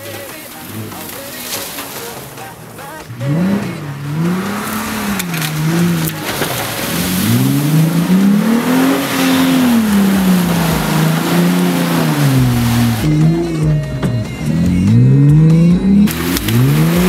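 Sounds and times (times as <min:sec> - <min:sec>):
car engine revving: 0:00.0 - 0:17.0
tyres spinning and spraying mud: 0:00.0 - 0:17.0.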